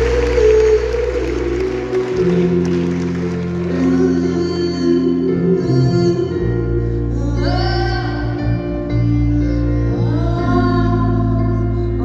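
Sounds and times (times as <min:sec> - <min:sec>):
bass: 0:00.0 - 0:12.0
keyboard chords: 0:00.0 - 0:12.0.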